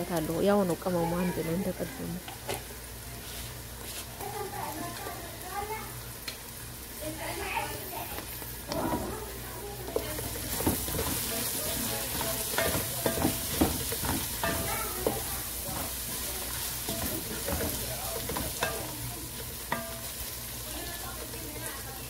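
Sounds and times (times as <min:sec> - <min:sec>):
vegetables sizzling in a pot: 0:00.0 - 0:22.0.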